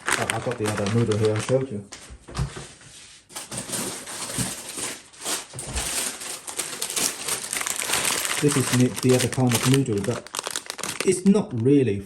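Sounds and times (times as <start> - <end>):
plastic packet crinkling: 0.0 - 1.7, 3.4 - 11.8.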